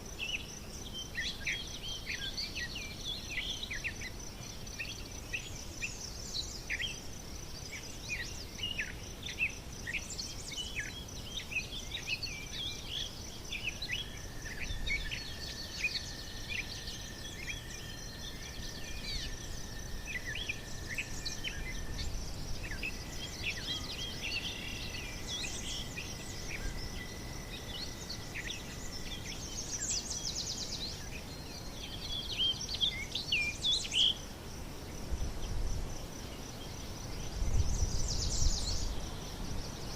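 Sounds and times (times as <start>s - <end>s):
birds chirping and singing: 0.0s - 34.2s, 36.6s - 39.9s
insect trill: 0.0s - 39.9s.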